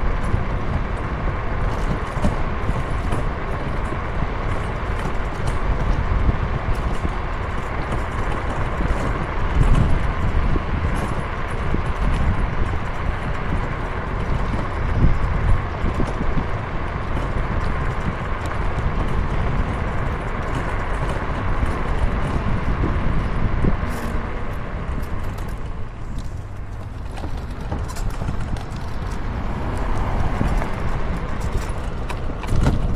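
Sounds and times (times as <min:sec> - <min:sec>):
low wind buffeting: 0:00.0 - 0:32.9
rushing noise of moving ride: 0:00.0 - 0:32.9.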